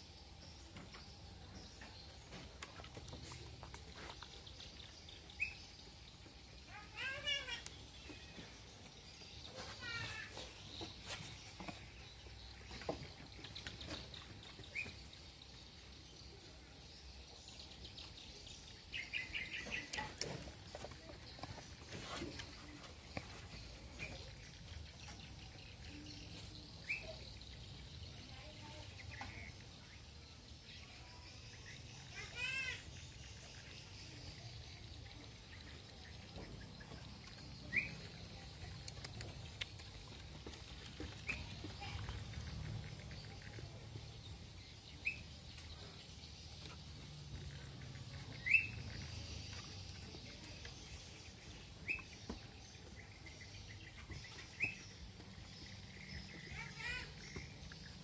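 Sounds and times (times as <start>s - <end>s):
faint steady background noise: 0.0s - 58.0s.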